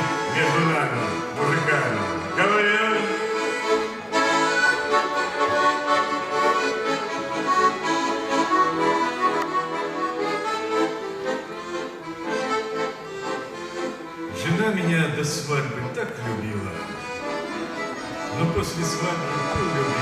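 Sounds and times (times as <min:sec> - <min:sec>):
accordion playing: 0:00.0 - 0:20.0.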